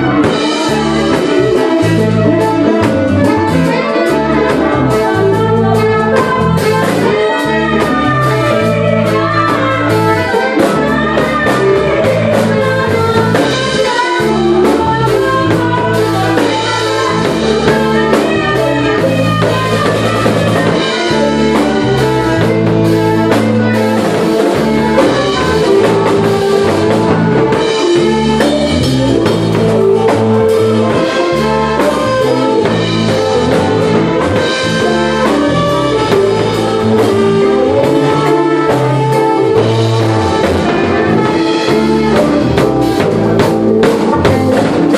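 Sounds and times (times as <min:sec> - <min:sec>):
bass line: 0:00.0 - 0:44.9
drum kit: 0:00.0 - 0:44.9
jazz band playing: 0:00.0 - 0:44.9.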